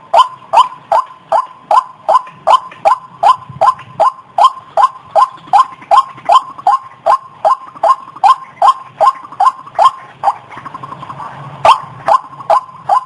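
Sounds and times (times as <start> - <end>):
waterhen calling sharp notes: 0.0 - 13.0.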